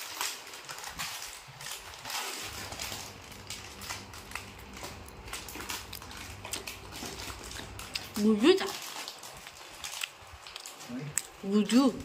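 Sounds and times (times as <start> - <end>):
plastic packets crinkling: 0.0 - 11.9
small clicks and crackles: 0.0 - 12.0.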